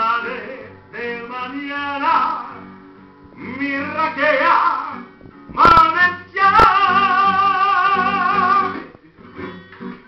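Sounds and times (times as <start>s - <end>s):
man singing: 0.0s - 2.7s, 3.3s - 9.3s
acoustic guitar strumming: 0.0s - 10.0s.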